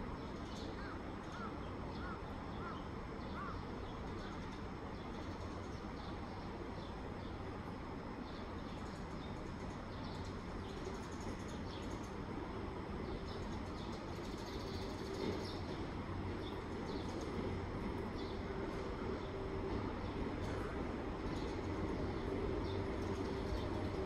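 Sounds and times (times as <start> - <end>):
low hum of train machinery: 0.0 - 24.0.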